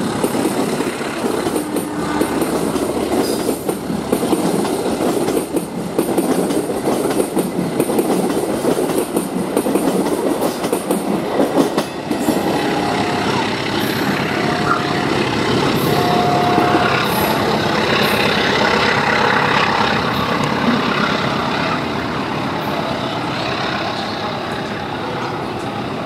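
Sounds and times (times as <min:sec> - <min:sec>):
train rolling on track: 0:00.0 - 0:26.0.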